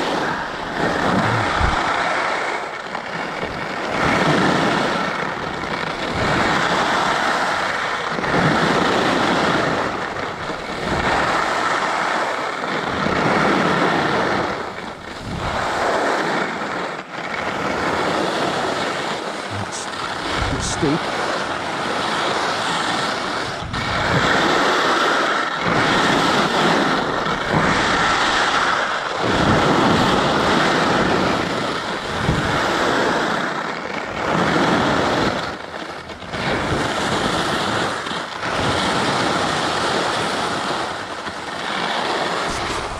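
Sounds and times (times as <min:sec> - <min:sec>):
skis scraping over snow: 0:00.0 - 0:42.9
wind on microphone: 0:00.0 - 0:42.9.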